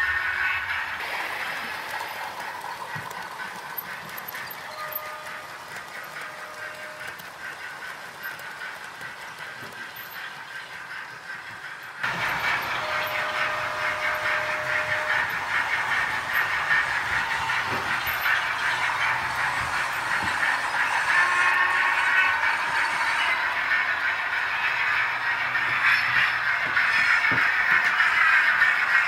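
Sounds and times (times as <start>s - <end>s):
model trains whirring on track: 0.0s - 29.0s.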